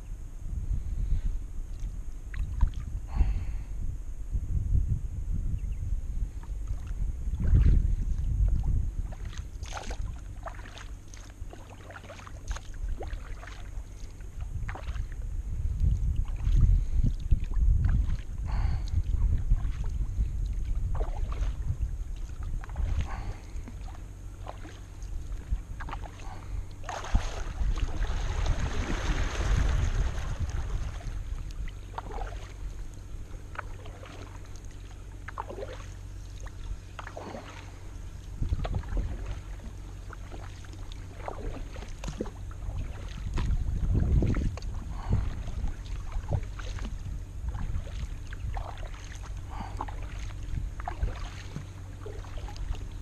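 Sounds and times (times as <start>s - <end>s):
low rumble: 0.0s - 53.0s
paddle strokes in water: 6.3s - 53.0s
water drips and splashes: 8.5s - 15.2s, 15.8s - 53.0s.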